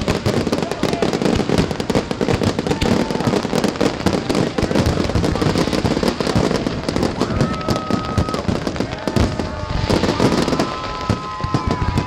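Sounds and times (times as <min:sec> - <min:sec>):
firecrackers banging: 0:00.0 - 0:12.0.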